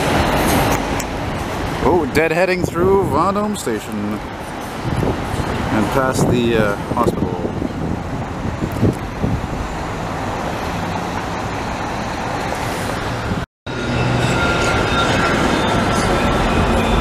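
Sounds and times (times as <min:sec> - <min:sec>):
high steady whine: 0:00.0 - 0:17.0
street traffic: 0:00.0 - 0:17.0
train rolling past: 0:00.0 - 0:17.0.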